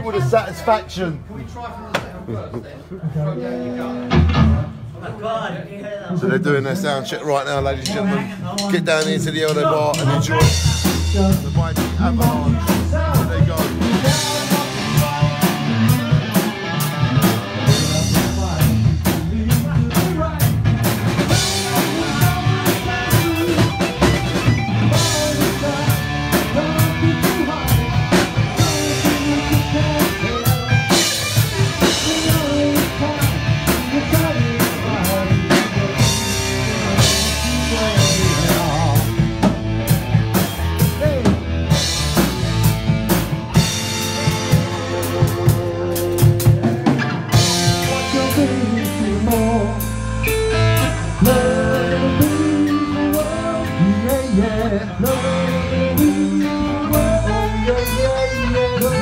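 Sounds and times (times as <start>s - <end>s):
electric guitar: 3.4s - 4.9s, 10.1s - 59.0s
drum kit: 3.4s - 5.0s, 7.4s - 59.0s.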